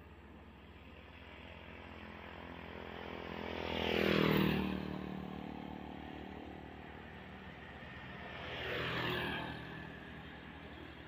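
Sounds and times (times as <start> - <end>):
motorcycle passing by: 0.4 - 11.0.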